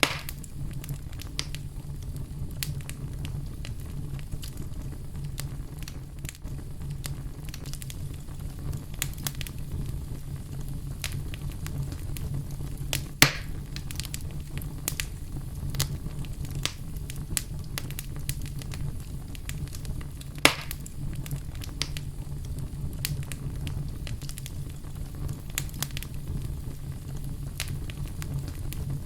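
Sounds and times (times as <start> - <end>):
fire crackling and popping: 0.0 - 29.0
steady low rumble: 0.0 - 29.0.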